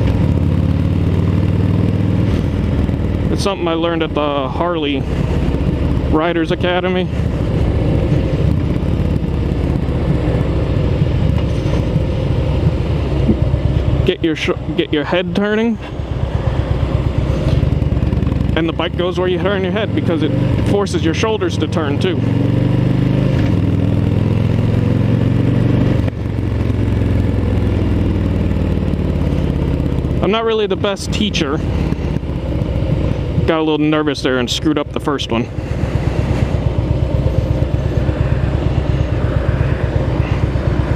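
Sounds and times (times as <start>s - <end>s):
motorcycle engine low rumble: 0.0s - 40.9s.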